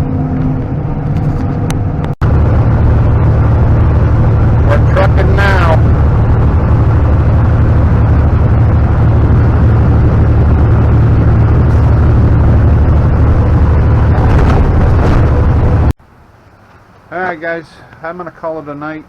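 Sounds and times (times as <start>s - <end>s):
combine harvester droning: 0.0s - 16.2s.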